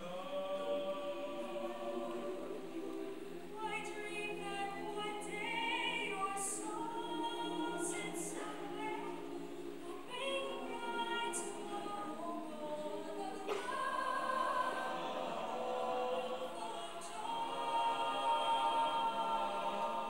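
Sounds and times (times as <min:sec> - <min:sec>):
choir singing a cappella: 0:00.0 - 0:20.0.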